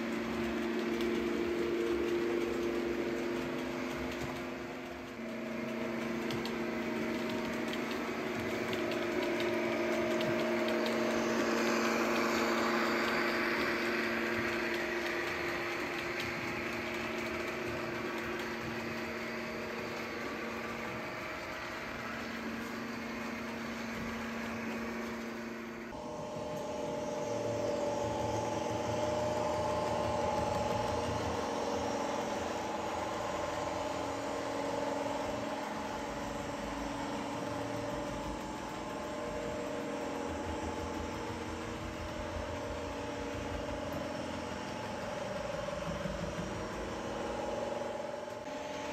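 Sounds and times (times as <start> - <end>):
model train motor whirring: 0.0 - 48.9
train wheels on track: 0.0 - 48.9.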